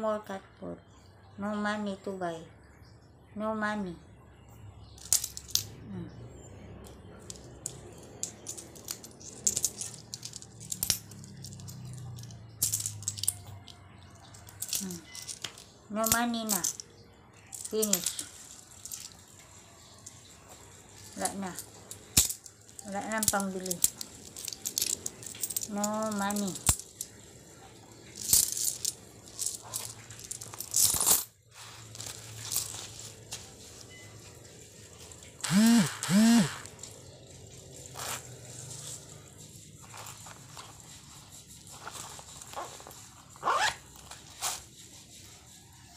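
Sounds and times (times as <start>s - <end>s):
coins clinking: 4.9s - 5.8s, 6.8s - 44.6s.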